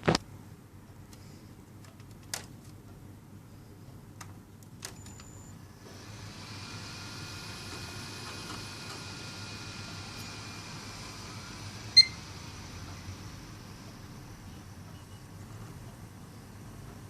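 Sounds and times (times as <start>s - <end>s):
computer fan noise: 0.0s - 17.0s.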